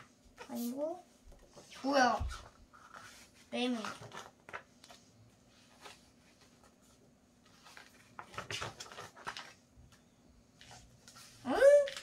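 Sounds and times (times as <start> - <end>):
book pages turning and rustling: 0.0 - 12.0.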